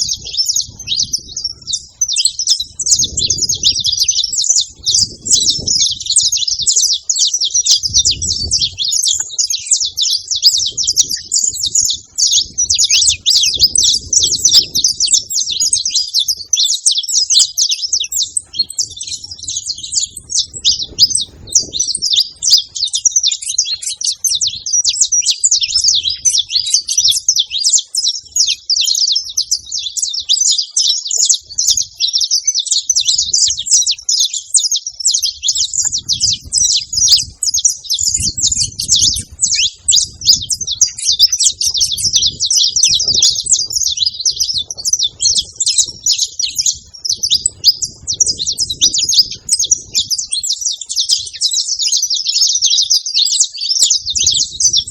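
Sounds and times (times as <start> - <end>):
finches chirping and singing: 0.0 - 54.9.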